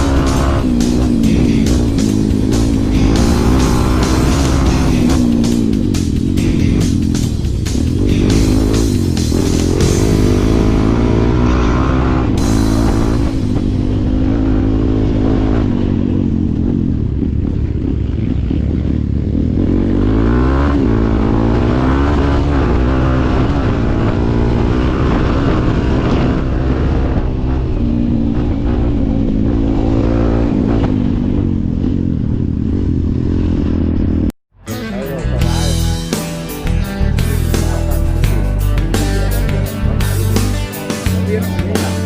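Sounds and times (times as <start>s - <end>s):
vehicle engine running: 0.0s - 34.3s, 34.9s - 42.0s.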